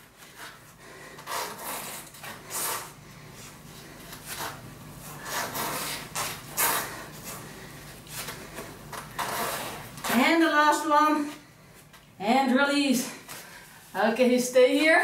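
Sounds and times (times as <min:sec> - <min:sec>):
rustles and rubs on exercise mat: 0:00.0 - 0:12.1, 0:13.1 - 0:15.0.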